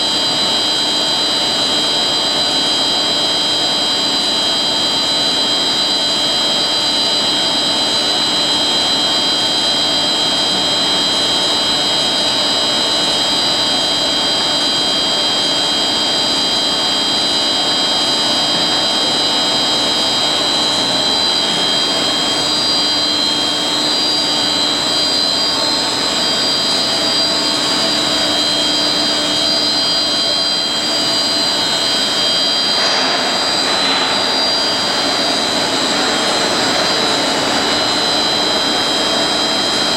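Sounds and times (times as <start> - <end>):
high-pitched machine whines: 0.0 - 39.9.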